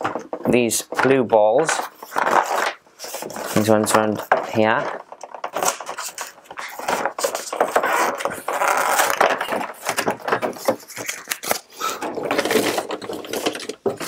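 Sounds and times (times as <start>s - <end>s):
plastic packaging crinkling: 1.1s - 14.0s.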